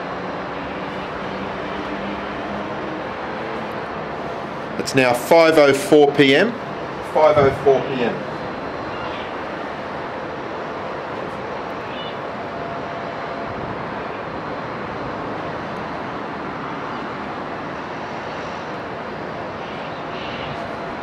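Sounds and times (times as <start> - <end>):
steady outdoor rushing noise: 0.0 - 21.0.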